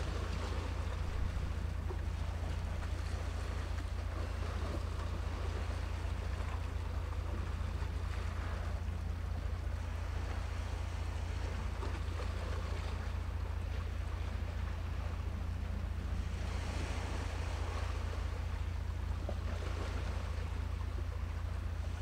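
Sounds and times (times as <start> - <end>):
sea noise: 0.0 - 22.0
wind rumble on microphone: 0.0 - 22.0.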